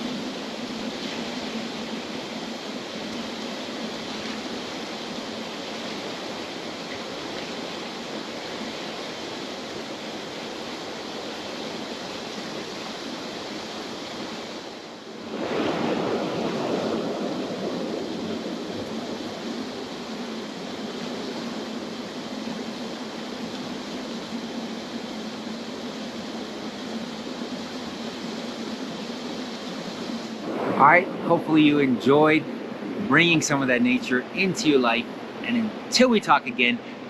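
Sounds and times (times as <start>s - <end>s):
river rushing: 0.0s - 37.0s.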